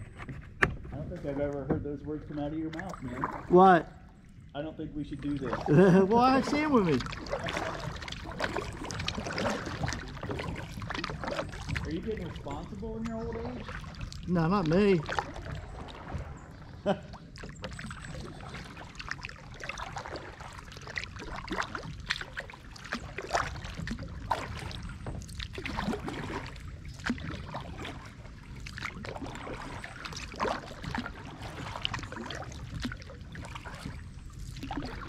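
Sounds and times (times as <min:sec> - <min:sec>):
paddle dipping into water: 0:00.0 - 0:35.0
water dripping off paddle: 0:02.6 - 0:03.5, 0:05.2 - 0:35.0.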